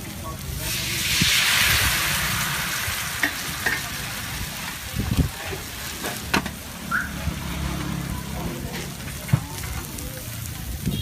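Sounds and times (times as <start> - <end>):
food sizzling on a pan: 0.0 - 11.0.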